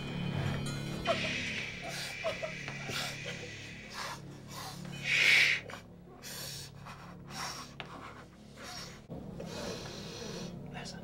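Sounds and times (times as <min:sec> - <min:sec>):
person breathing hard: 0:01.0 - 0:10.6.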